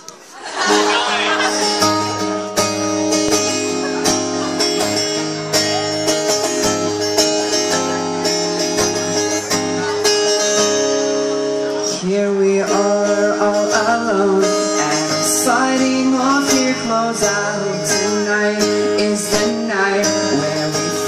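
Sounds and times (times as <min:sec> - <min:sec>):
guitar strumming chords: 0:00.6 - 0:21.0.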